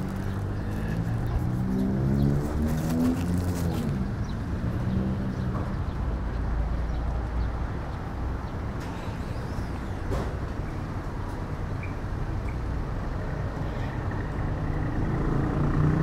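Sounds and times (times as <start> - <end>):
engine hum: 0.0 - 16.0
low traffic rumble: 0.0 - 16.0.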